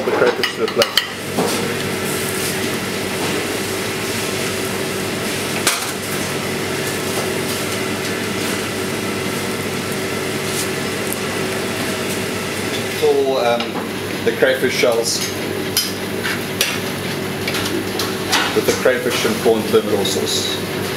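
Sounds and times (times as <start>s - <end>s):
kitchen hum and hiss: 0.0s - 20.9s.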